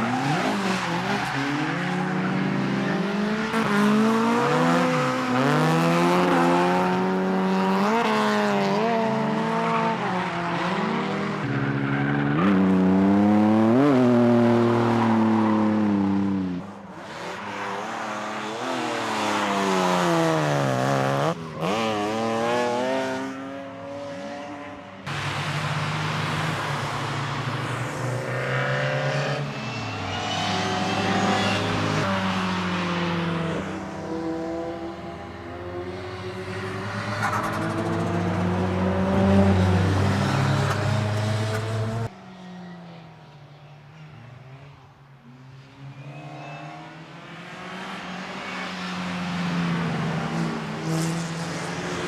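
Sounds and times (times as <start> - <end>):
race car engines revving: 0.0 - 42.1, 45.6 - 52.0.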